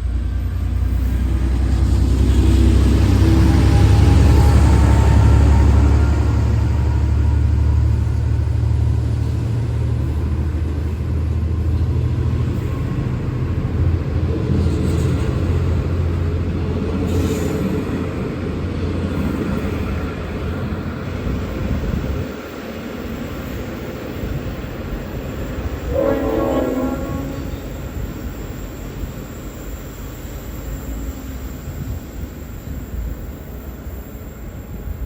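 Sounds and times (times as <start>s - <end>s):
diesel locomotive engine rumbling: 0.0s - 35.0s.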